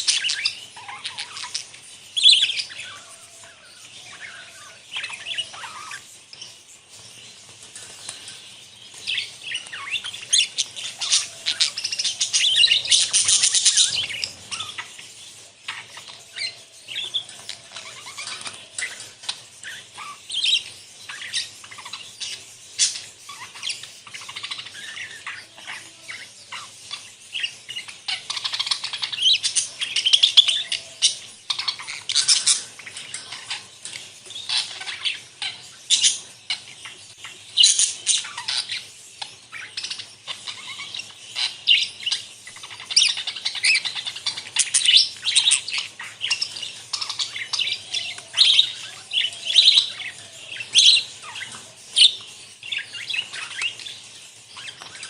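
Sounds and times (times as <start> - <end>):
budgerigars chattering: 0.0 - 55.0
sharp bird calls: 0.0 - 55.0.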